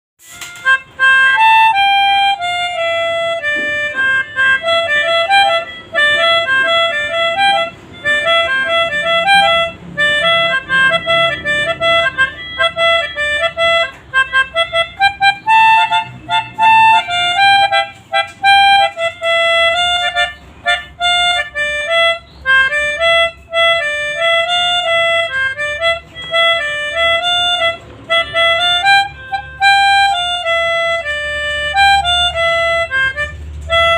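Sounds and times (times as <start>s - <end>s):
melodica playing quick short notes: 0.2s - 33.9s.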